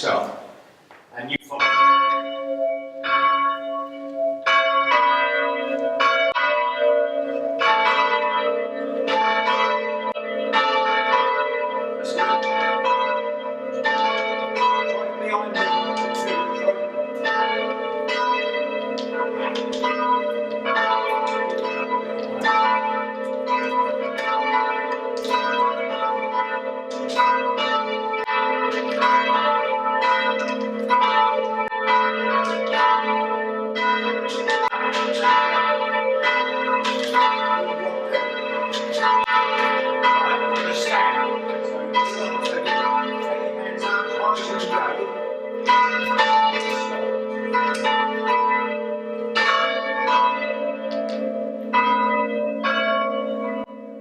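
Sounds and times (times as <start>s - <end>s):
church bells ringing in rounds: 0.0s - 0.4s, 1.3s - 54.0s
bells humming: 1.5s - 54.0s.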